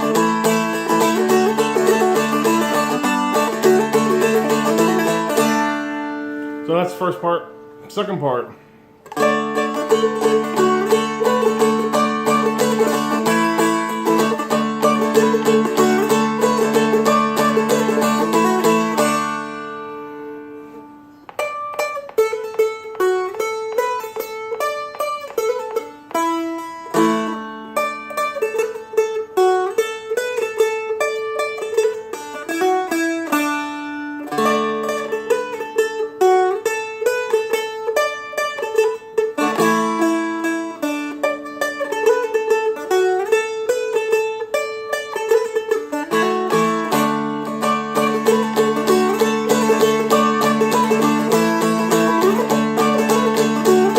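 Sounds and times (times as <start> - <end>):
strumstick playing jig tune: 0.0 - 53.9.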